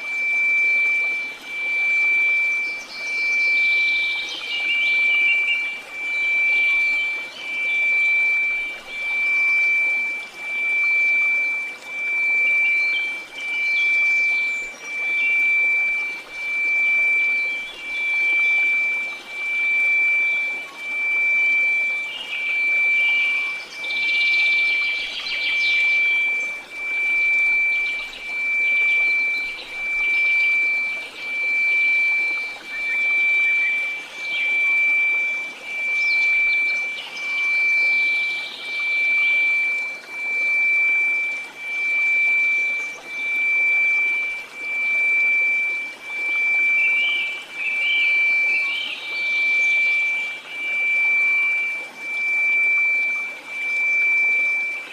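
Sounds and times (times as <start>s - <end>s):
pulsing sine tone: 0.0s - 54.9s.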